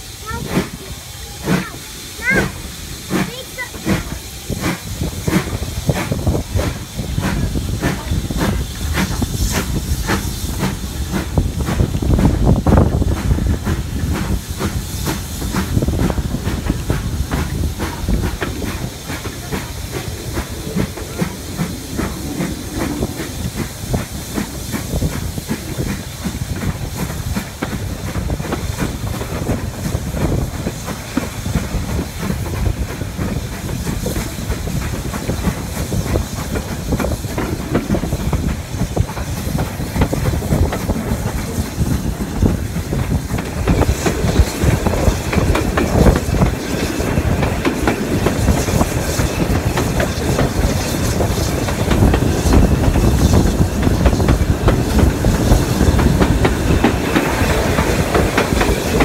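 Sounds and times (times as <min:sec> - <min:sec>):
steam hiss: 0:00.0 - 0:59.0
steam locomotive chuffing: 0:00.0 - 0:59.0
train running on rails: 0:00.0 - 0:59.0.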